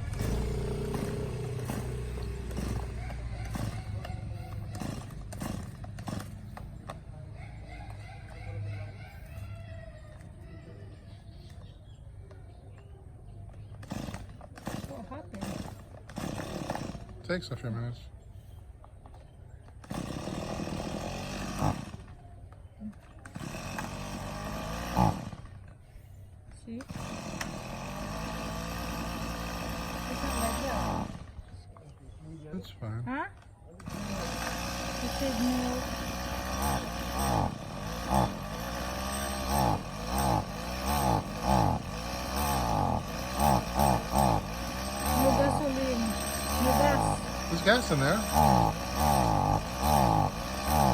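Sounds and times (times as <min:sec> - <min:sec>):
small petrol engine starting and dying: 0:00.0 - 0:09.4, 0:11.1 - 0:18.0, 0:19.2 - 0:25.9, 0:26.6 - 0:31.7, 0:32.6 - 0:50.9.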